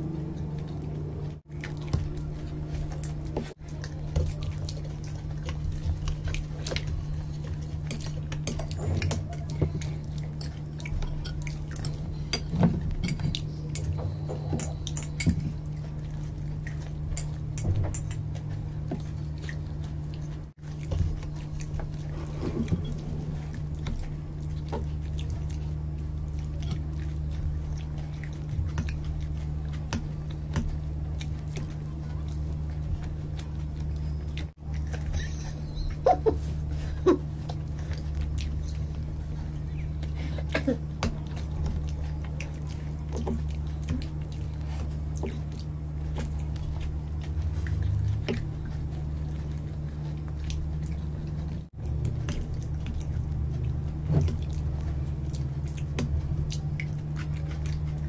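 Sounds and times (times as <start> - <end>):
chewing and mouth noises: 0.0 - 58.0
steady low hum: 0.0 - 58.0.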